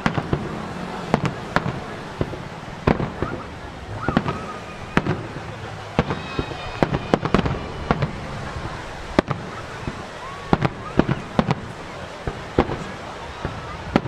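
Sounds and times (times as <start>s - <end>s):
firework shells booming: 0.0s - 14.0s.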